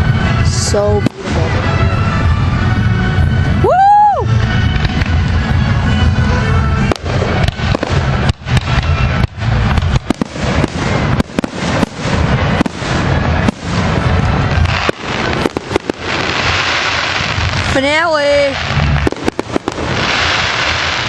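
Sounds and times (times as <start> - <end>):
continuous low rumble: 0.0 - 21.0
fireworks bursting with sharp bangs: 0.0 - 21.0.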